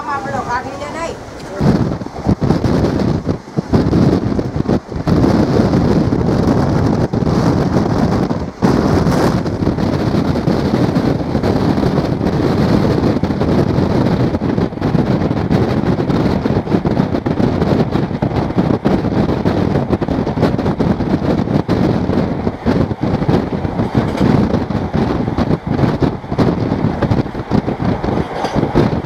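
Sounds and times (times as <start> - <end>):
train running noise: 0.0 - 29.0
wind buffeting microphone: 0.0 - 29.0.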